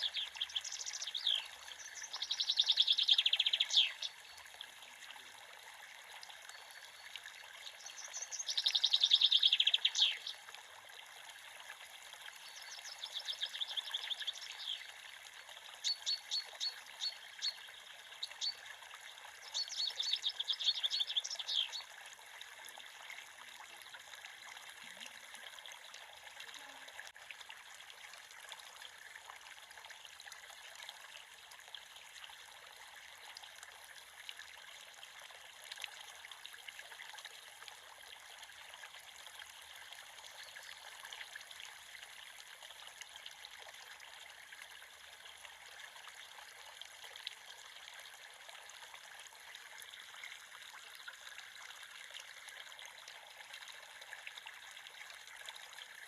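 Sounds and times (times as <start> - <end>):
creek trickling over stones: 0.0 - 56.0.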